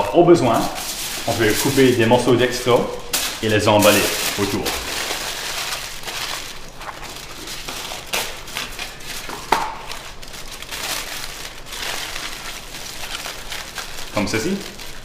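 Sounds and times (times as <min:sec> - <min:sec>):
aluminium foil crumpling: 0:00.0 - 0:15.0.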